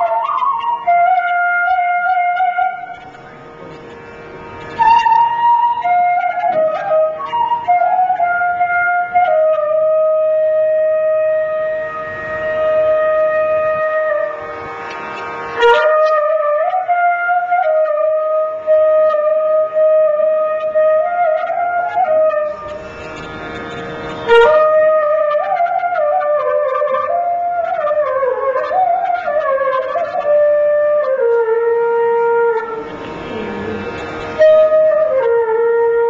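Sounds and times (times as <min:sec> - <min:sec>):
bamboo flute slow melody: 0:00.0 - 0:03.8, 0:04.6 - 0:14.6, 0:15.6 - 0:23.1, 0:24.2 - 0:36.0.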